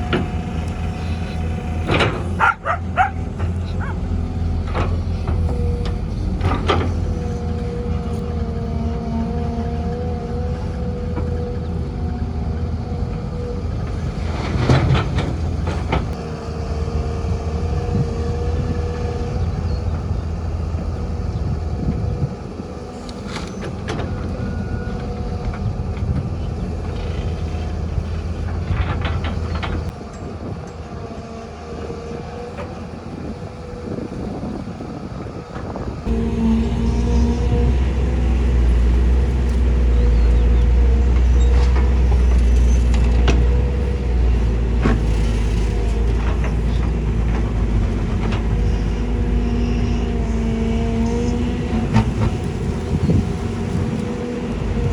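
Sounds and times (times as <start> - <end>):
heavy machinery engine rumble: 0.0 - 54.9.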